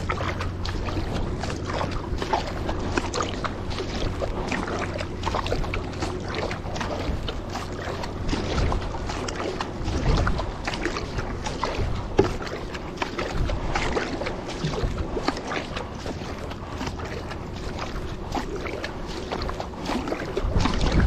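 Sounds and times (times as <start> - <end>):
paddle strokes splashing water: 0.0 - 21.0
wind on microphone: 0.0 - 21.0.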